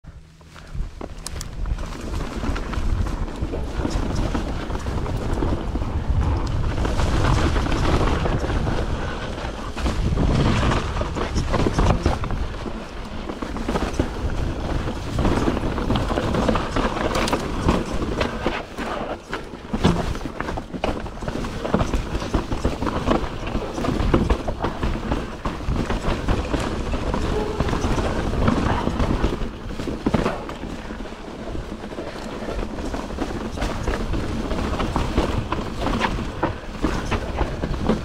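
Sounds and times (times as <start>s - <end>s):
wind buffeting microphone: 0.1s - 38.0s
tyres crunching over dirt and rock: 0.4s - 38.0s
bike clattering over bumps: 1.0s - 38.0s.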